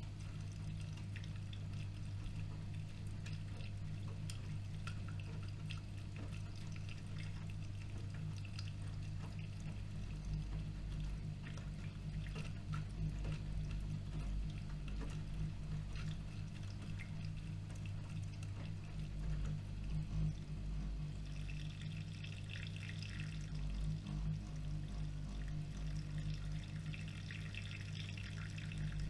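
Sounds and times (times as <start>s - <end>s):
low machine hum: 0.0s - 29.0s
water sloshing in washing machine: 0.0s - 29.0s.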